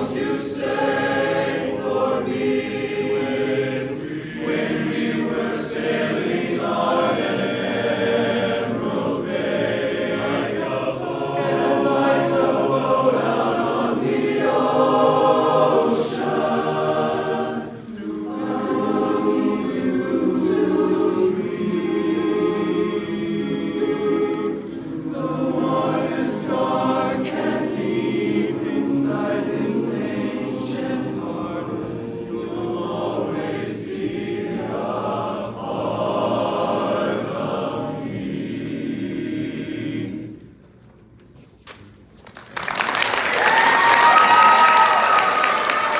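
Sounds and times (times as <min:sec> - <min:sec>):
men's chorus singing: 0:00.0 - 0:40.5.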